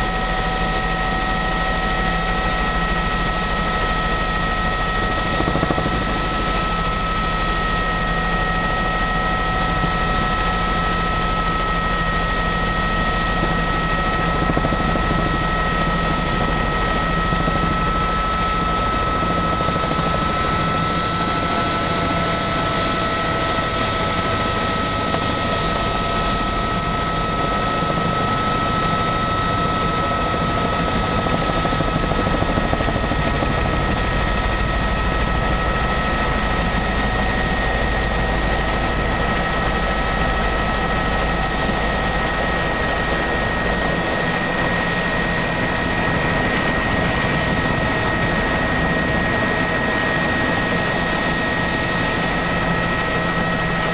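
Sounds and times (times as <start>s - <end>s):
aircraft cabin engine drone: 0.0s - 53.9s
constant high whine: 0.0s - 53.9s.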